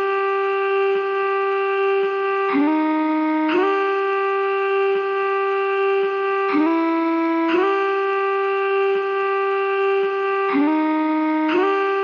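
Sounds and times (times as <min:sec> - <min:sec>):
slow wind instrument melody: 0:00.0 - 0:12.0.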